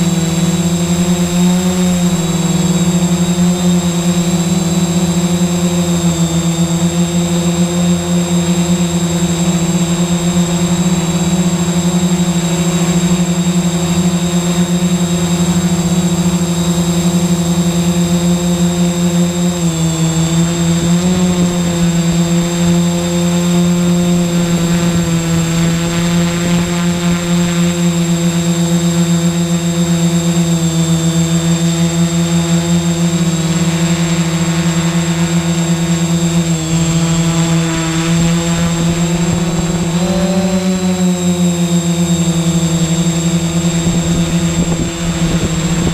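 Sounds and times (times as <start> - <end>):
drone propellers humming: 0.0 - 45.9
thin high whine: 0.0 - 45.9.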